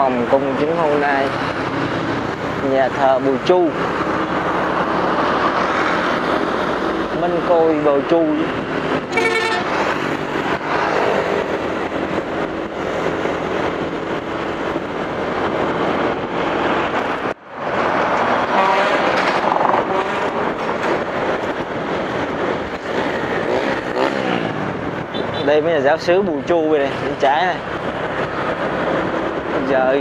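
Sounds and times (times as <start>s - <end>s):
dense road traffic rumble: 0.0s - 30.0s.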